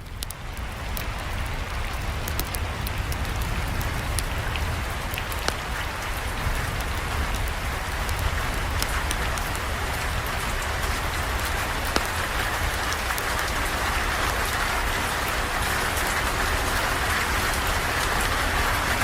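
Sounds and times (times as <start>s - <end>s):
campfire crackling: 0.0s - 19.0s
steady rain falling: 0.0s - 19.0s.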